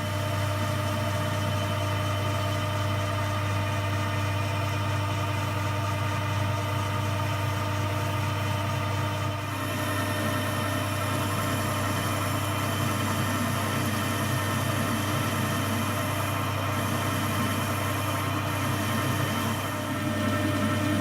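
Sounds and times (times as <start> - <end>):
metalworking lathe motor hum: 0.0 - 21.0.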